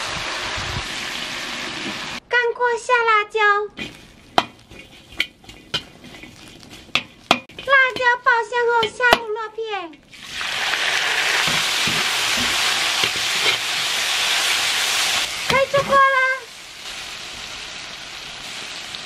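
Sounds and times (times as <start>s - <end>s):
meat sizzling in a wok: 0.0s - 2.2s, 3.8s - 8.9s, 10.0s - 19.0s.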